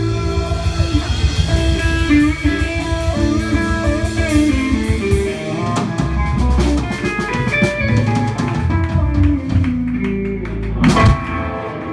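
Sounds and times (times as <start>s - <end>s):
live blues band playing: 0.0s - 11.9s.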